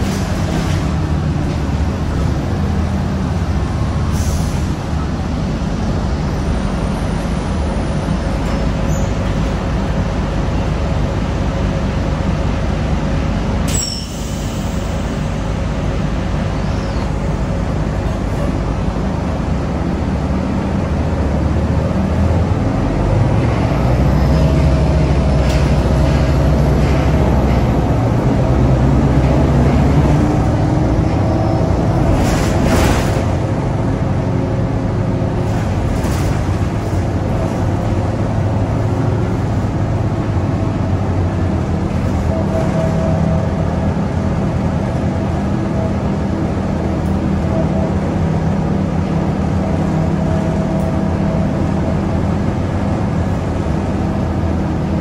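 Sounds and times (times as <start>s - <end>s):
bus diesel engine running: 0.0s - 55.0s
road noise: 0.0s - 55.0s.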